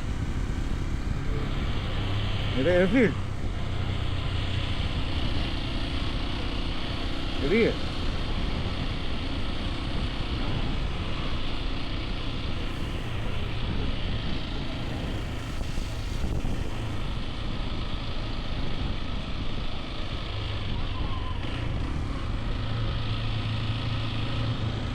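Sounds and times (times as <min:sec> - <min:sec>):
wind on microphone: 0:00.0 - 0:07.2, 0:08.0 - 0:24.9
motorcycle engine running: 0:00.0 - 0:24.9.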